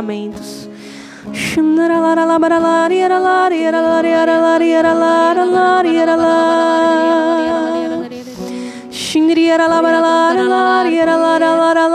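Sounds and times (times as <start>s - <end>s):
soft instrumental backing: 0.0s - 11.9s.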